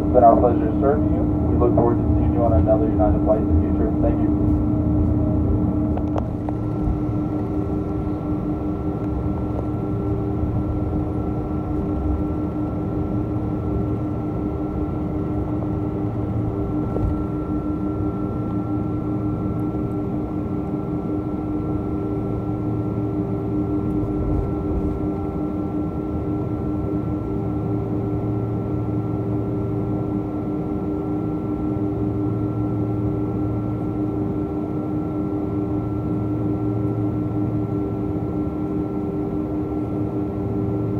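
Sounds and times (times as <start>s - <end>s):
airplane cabin rumble and hiss: 0.0s - 40.9s
steady hum tones: 0.0s - 40.9s.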